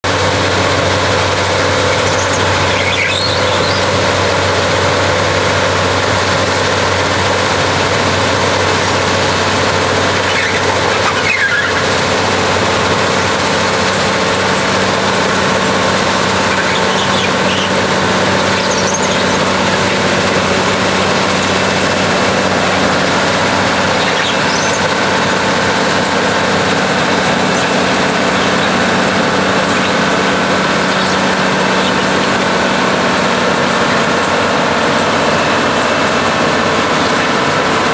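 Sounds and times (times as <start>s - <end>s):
ballast cleaner machine din: 0.0s - 37.9s.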